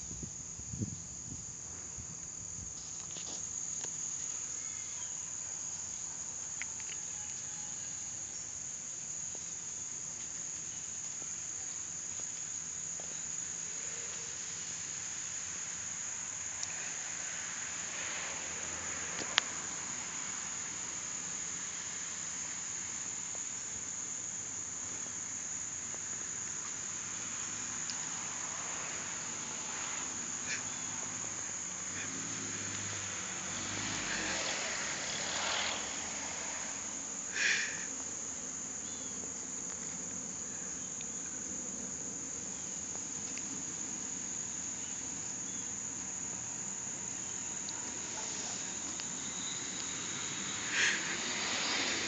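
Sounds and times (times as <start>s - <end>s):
insect chorus: 0.0s - 52.0s.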